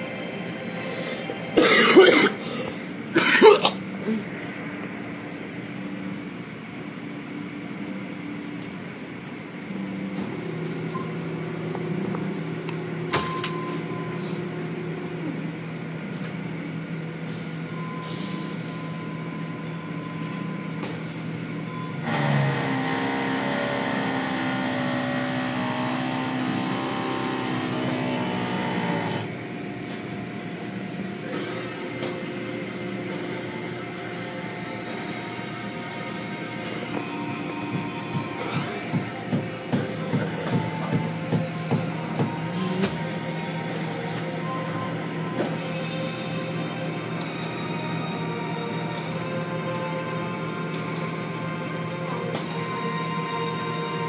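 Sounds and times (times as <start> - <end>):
car wash motor hum: 0.0 - 54.0.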